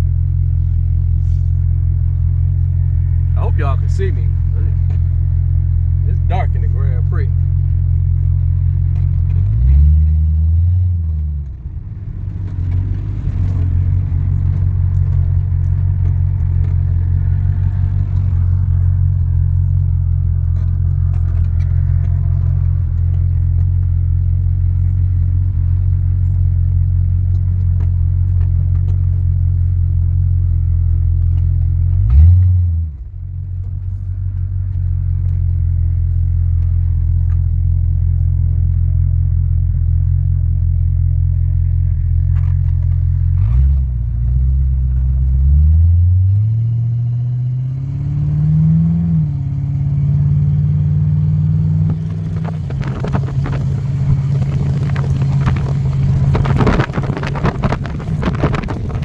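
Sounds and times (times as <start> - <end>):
car engine rumbling inside cabin: 0.0 - 59.0.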